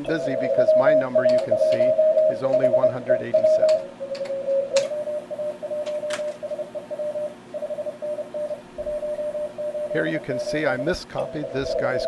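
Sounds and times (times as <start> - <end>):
morse code tone: 0.0 - 12.0.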